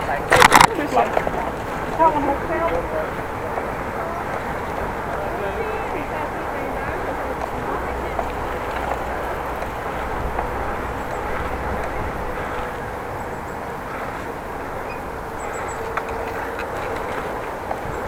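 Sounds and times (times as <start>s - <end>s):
bicycle rolling: 0.0s - 18.0s.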